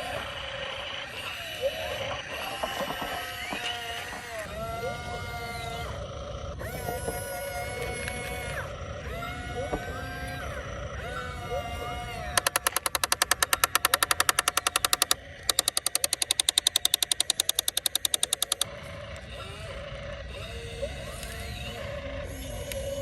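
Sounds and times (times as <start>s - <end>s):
low steady machine background: 0.0s - 23.0s.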